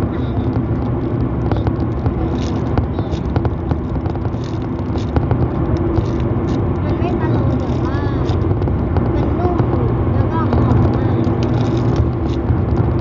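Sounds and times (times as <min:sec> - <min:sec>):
car interior drone: 0:00.0 - 0:13.0
plastic bag crinkling: 0:00.4 - 0:09.2, 0:10.6 - 0:12.5.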